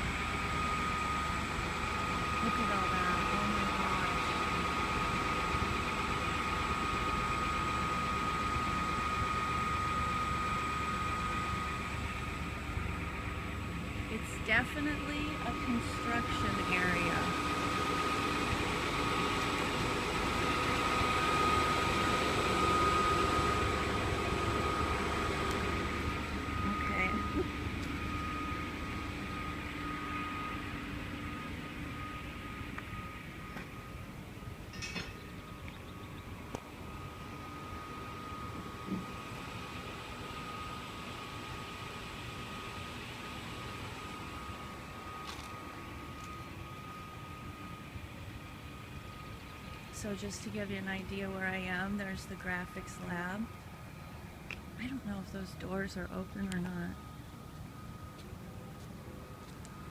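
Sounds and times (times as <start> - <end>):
construction machinery droning: 0.0 - 59.9
high whine: 0.0 - 59.9.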